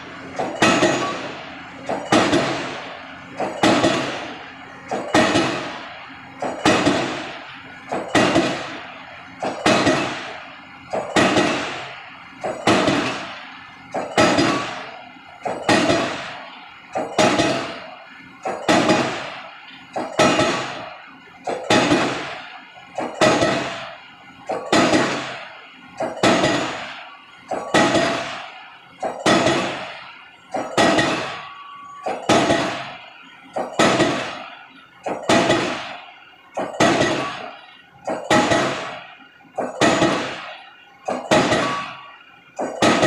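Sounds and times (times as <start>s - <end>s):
pile hammer bangs: 0.0s - 43.0s.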